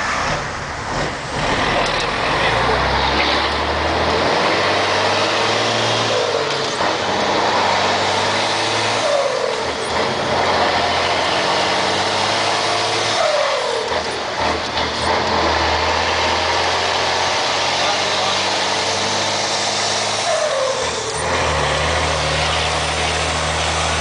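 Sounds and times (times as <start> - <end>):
diesel truck engine revving: 0.0 - 24.0.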